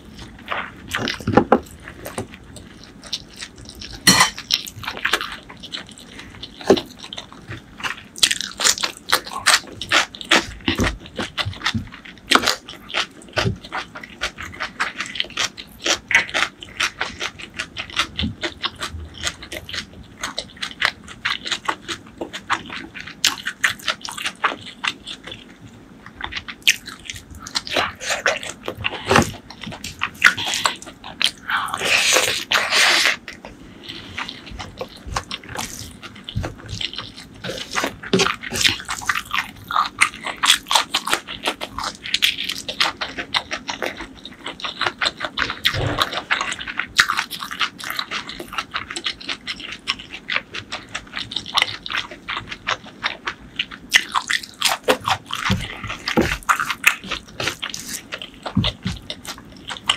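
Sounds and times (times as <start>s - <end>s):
chewing crunchy food: 0.0s - 59.9s.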